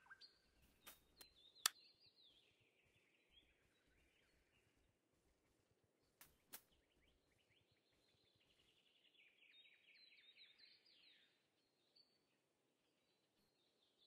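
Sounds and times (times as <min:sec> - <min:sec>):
faint bird song: 0:00.0 - 0:14.0.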